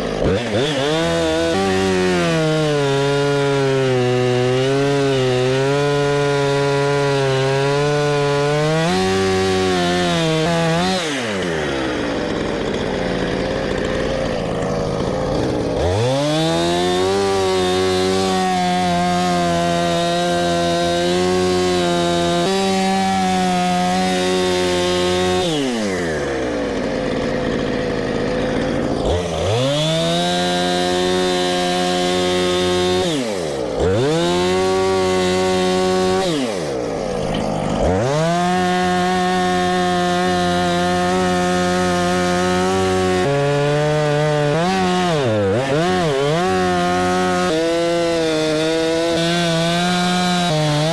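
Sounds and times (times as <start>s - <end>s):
chainsaw cutting log: 0.0s - 50.9s.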